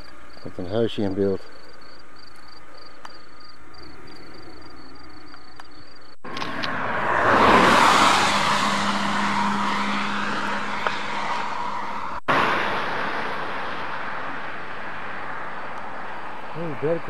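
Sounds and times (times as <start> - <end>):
low hum: 0.0 - 17.0
road and wind noise of vehicle: 0.0 - 17.0.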